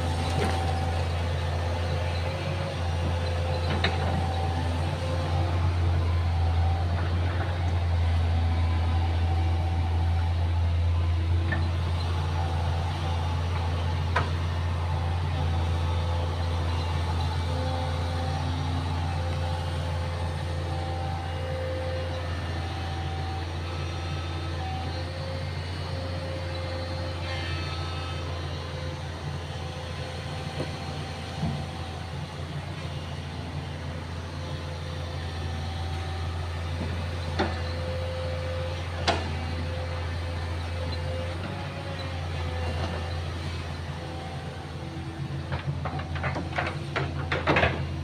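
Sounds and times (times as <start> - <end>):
excavator diesel engine droning: 0.0 - 48.0.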